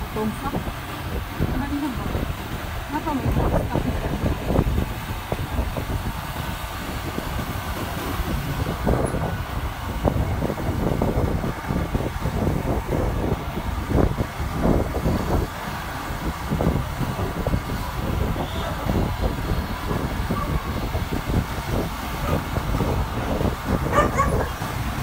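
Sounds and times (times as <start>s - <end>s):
road noise: 0.0s - 25.0s
wind rumbling on microphone: 0.0s - 25.0s.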